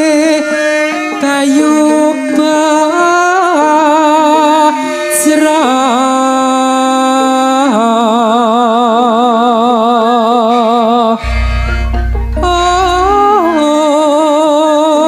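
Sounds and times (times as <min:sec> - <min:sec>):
man singing in high voice: 0:00.0 - 0:15.0.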